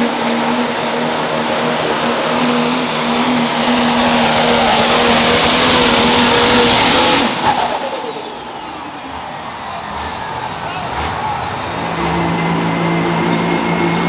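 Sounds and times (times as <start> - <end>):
diesel tractor engine roaring: 0.0 - 14.0.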